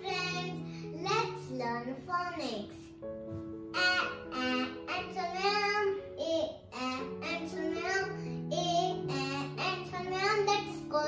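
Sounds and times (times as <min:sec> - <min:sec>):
child singing: 0:00.0 - 0:03.0, 0:03.7 - 0:11.0
instrumental backing of held notes: 0:00.0 - 0:11.0.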